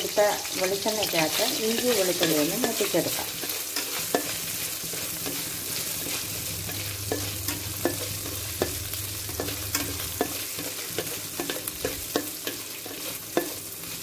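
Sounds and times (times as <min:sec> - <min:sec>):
ginger and garlic sizzling in oil: 0:00.0 - 0:14.0
spatula scraping and knocking pan: 0:00.5 - 0:14.0.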